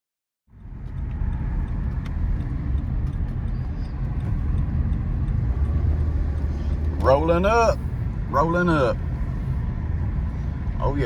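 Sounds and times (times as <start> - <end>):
car engine rumble: 0.5 - 11.0
road noise inside car: 0.5 - 11.0.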